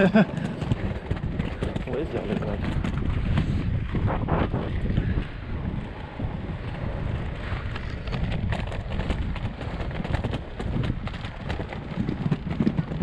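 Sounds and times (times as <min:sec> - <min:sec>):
skate wheels rolling on pavement: 0:00.0 - 0:13.0.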